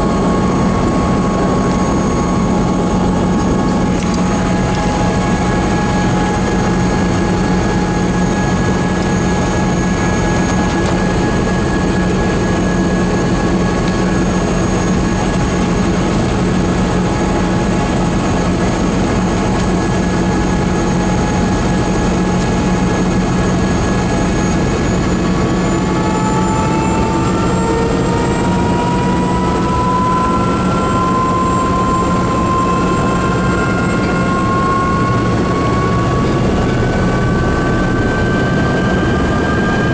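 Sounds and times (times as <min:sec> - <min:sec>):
helicopter engine and rotor: 0:00.0 - 0:39.9
rising whine: 0:00.0 - 0:39.9.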